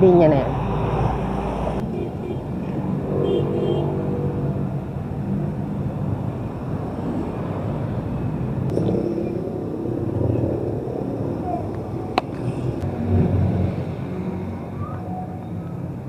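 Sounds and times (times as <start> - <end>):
car and motorcycle engines passing: 0.0 - 16.0
steady road rumble: 0.0 - 16.0.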